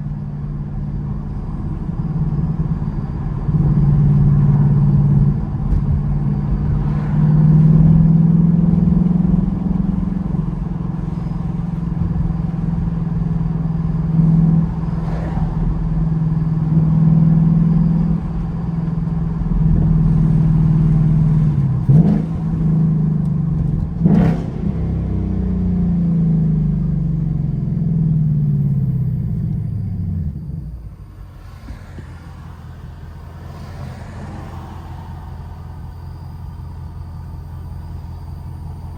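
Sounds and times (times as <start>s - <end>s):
car engine exhaust drone: 0.0s - 38.9s.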